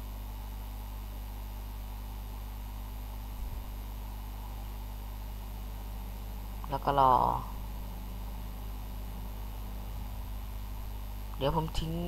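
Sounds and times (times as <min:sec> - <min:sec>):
microphone hum and hiss: 0:00.0 - 0:12.0.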